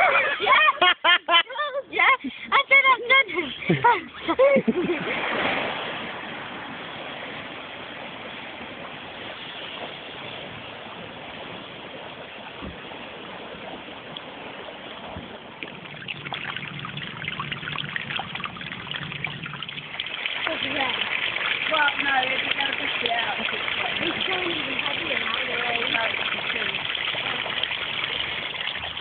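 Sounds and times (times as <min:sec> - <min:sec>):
floodwater rushing: 0:00.0 - 0:29.0
low hum: 0:03.3 - 0:29.0.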